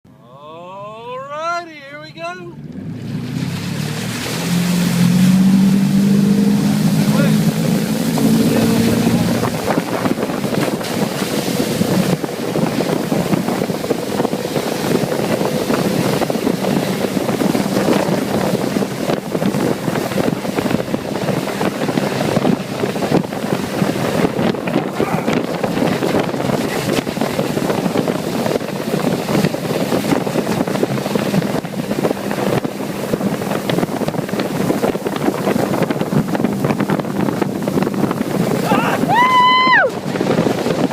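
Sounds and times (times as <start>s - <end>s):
boat engine running: 0.1s - 40.9s
wind buffeting microphone: 2.1s - 40.9s
rushing water: 2.2s - 40.9s.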